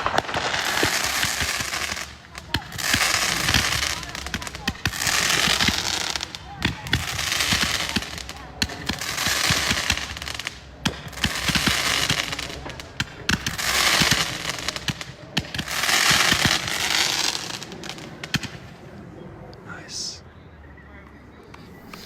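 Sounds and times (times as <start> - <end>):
fireworks bangs: 0.0 - 18.8, 21.7 - 22.0
fireworks crackling fizz: 0.0 - 18.8, 21.7 - 22.0.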